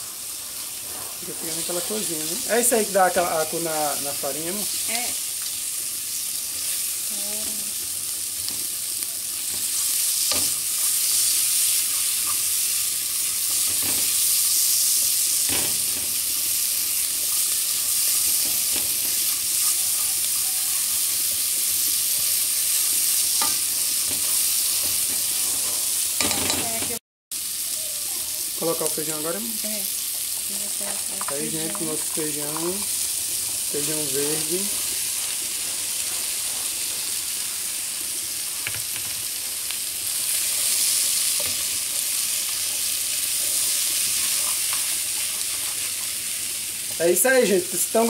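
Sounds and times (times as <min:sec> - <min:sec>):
vegetables sizzling in a pan: 0:00.0 - 0:48.0.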